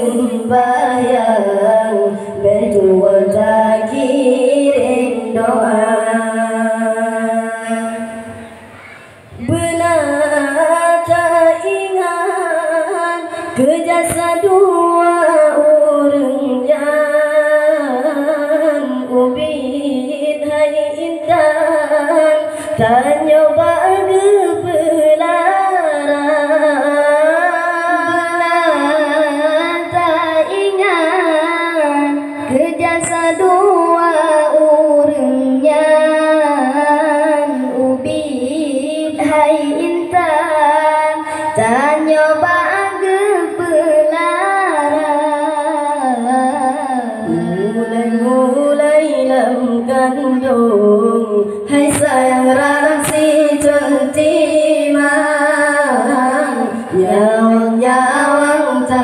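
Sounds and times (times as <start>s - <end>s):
boys singing into microphones: 0.0s - 59.0s.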